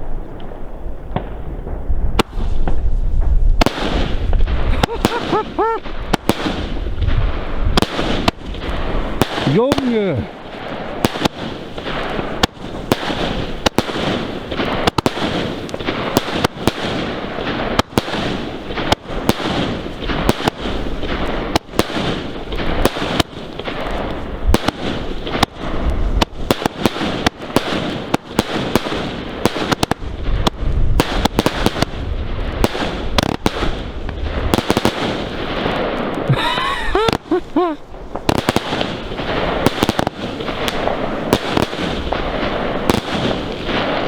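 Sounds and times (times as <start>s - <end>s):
deep firework booms: 0.0s - 44.0s
fireworks crackling and banging: 0.0s - 44.0s.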